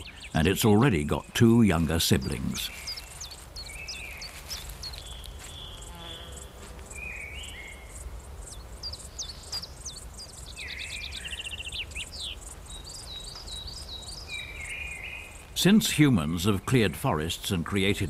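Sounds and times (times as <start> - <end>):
insects chirping: 0.0 - 18.0
small birds singing: 0.0 - 18.0.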